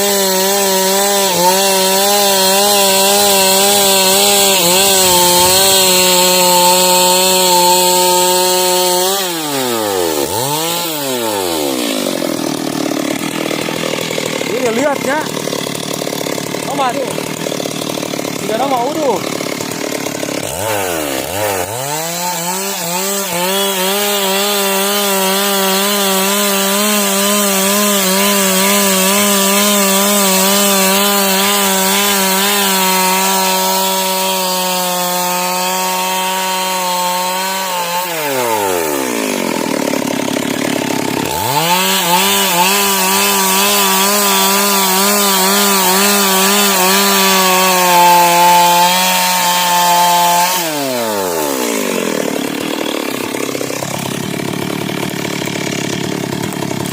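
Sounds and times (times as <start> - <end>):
chainsaw cutting a log: 0.0 - 56.9.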